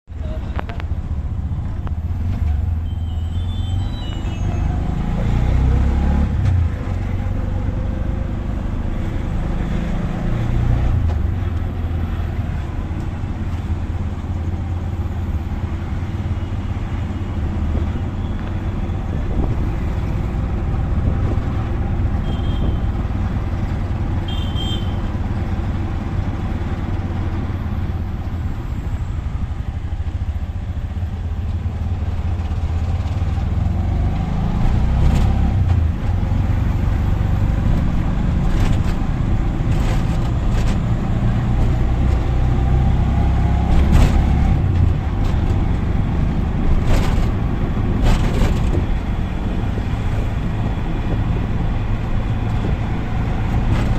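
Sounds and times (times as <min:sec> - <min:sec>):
city traffic: 0:00.0 - 0:53.9
auto-rickshaw engine revving: 0:00.5 - 0:53.9.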